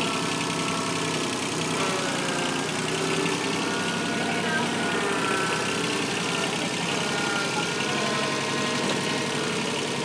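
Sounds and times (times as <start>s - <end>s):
backhoe engine running: 0.0s - 10.0s.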